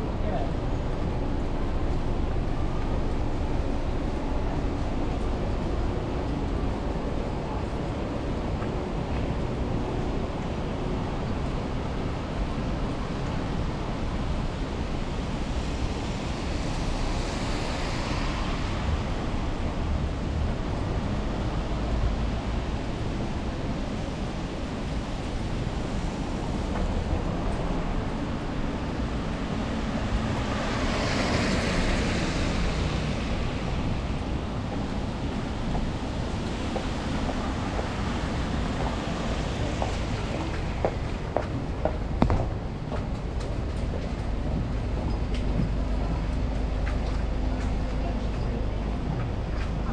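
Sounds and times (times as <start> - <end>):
steady street hiss and rumble: 0.0 - 49.9
vehicles passing on wet road: 0.0 - 49.9.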